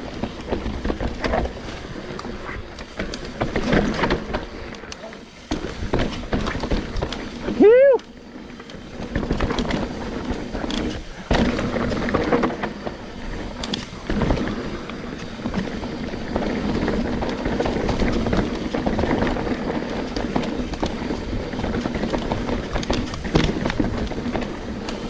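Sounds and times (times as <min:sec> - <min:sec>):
bike knocks and rattles: 0:00.0 - 0:25.0
bike tyres rolling over dirt: 0:00.0 - 0:25.0.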